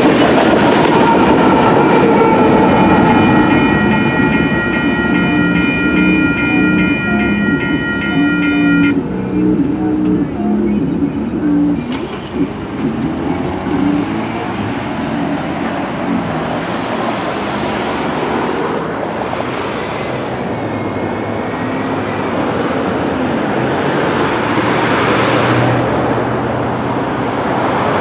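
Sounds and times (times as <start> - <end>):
cars crossing railroad crossing: 0.0 - 28.0
engines accelerating: 0.0 - 28.0.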